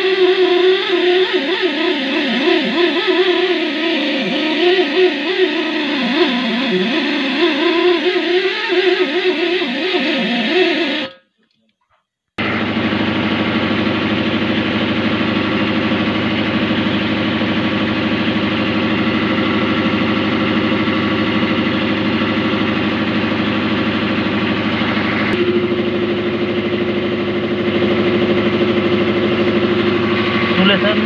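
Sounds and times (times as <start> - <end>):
motor humming: 0.0 - 11.2, 12.4 - 31.0.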